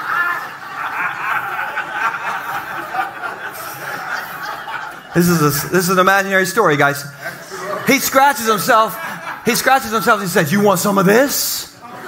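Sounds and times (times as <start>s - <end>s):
crowd laughing: 0.0s - 12.0s.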